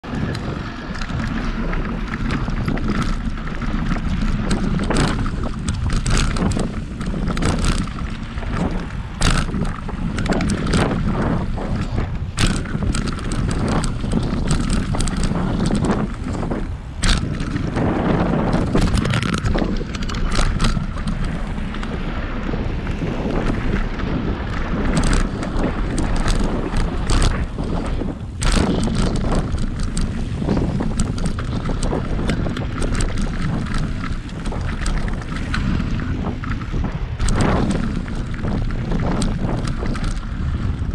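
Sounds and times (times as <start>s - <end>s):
bike clacks and rattles: 0.0s - 40.9s
tyres rumbling over dirt: 0.0s - 40.9s
wind buffeting microphone: 0.0s - 40.9s.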